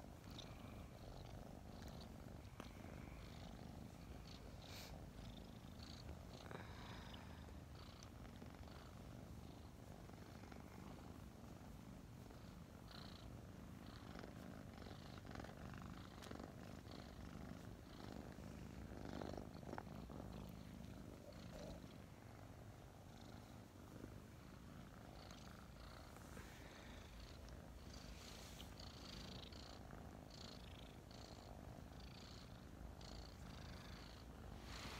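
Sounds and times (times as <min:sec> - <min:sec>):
kittens purring: 0:00.0 - 0:34.9.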